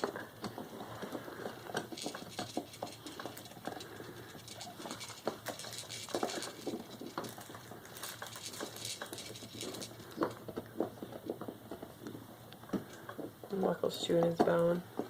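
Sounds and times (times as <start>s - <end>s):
dog gnawing on bone: 0.0s - 13.3s.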